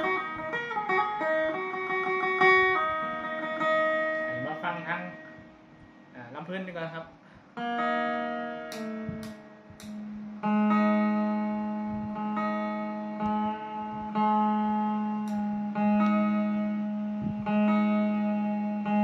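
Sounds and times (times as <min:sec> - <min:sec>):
lute strings plucked: 0:00.0 - 0:06.0, 0:07.6 - 0:19.0.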